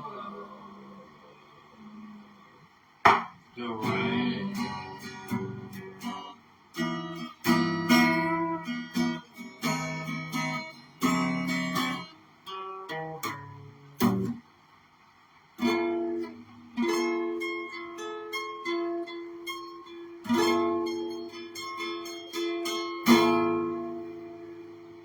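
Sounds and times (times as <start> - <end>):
guitar strumming chords: 3.1 - 14.4, 15.6 - 25.0.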